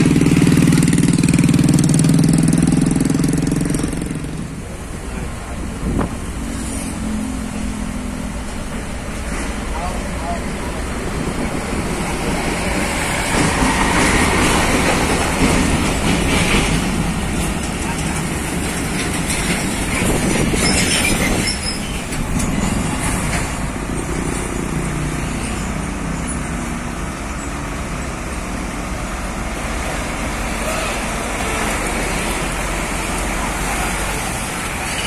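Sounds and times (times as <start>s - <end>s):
heavy diesel trucks passing: 0.0s - 35.0s
rumble of tyres and trailers: 0.0s - 35.0s.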